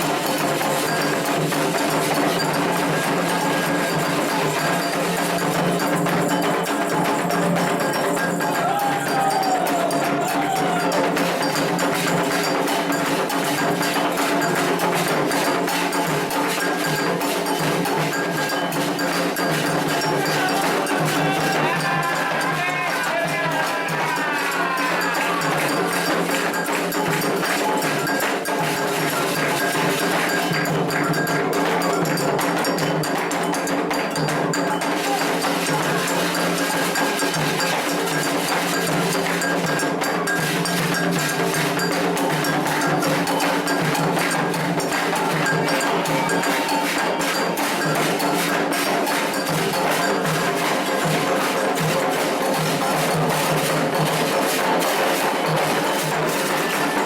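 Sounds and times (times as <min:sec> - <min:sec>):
hand drums: 0:00.0 - 0:57.0
metal bell strikes: 0:00.0 - 0:57.0.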